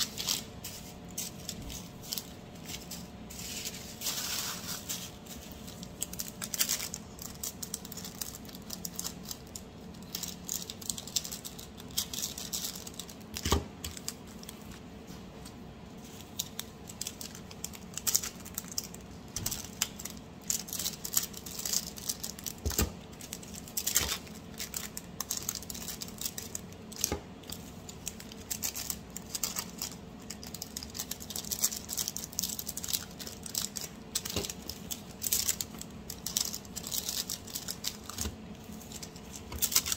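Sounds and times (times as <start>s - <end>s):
plastic bags crinkling: 0.0s - 39.9s.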